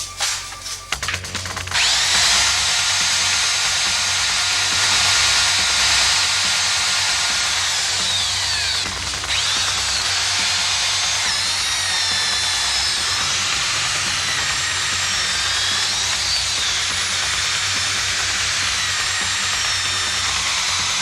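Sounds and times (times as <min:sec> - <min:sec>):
wood chipper whining: 0:00.0 - 0:21.0.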